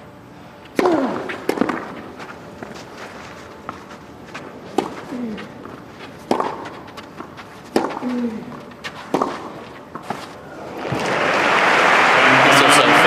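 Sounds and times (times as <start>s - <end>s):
rackets striking tennis ball: 0.6s - 11.1s.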